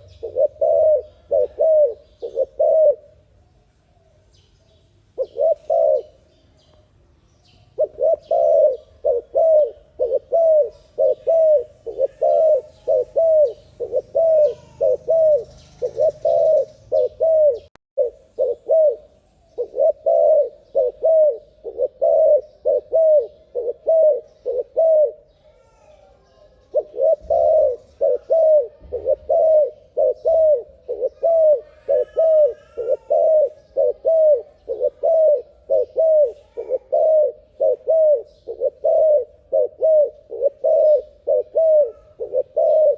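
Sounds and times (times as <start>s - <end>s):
dove cooing: 0.0s - 3.2s, 5.2s - 6.3s, 7.8s - 42.9s.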